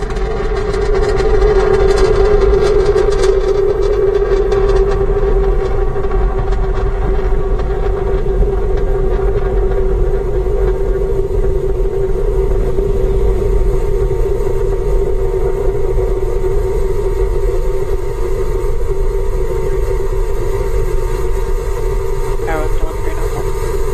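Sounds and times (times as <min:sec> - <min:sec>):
rocket engines rumbling: 0:00.0 - 0:23.9.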